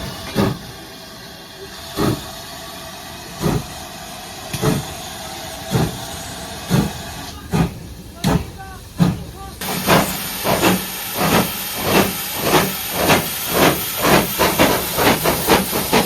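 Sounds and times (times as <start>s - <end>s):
hiss of steam: 0.0s - 16.0s
steam locomotive exhaust chuffs: 0.0s - 16.0s.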